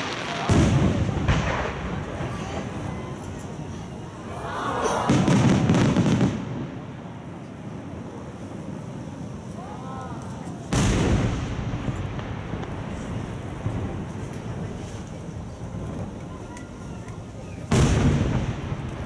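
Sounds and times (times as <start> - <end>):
firework shells bursting: 0.0 - 4.3, 5.1 - 19.0.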